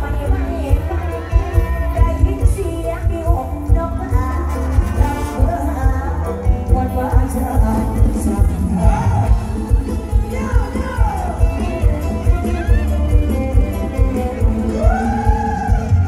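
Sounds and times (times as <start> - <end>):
woman singing: 0.0 - 15.9
live band music: 0.0 - 16.0.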